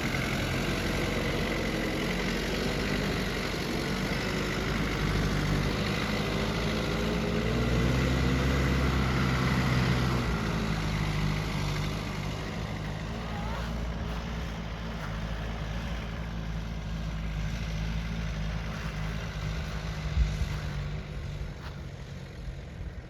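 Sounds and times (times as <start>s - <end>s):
car engine running at low speed: 0.0s - 23.0s.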